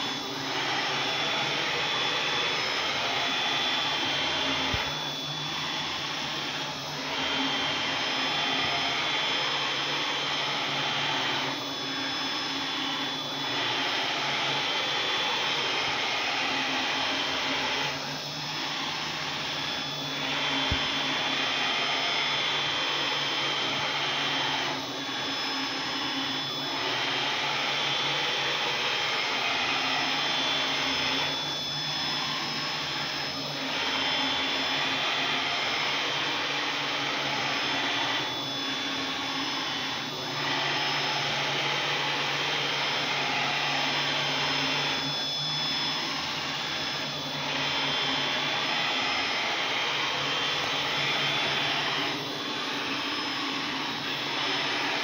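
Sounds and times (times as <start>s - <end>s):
spindle whining at high speed: 0.0s - 55.0s.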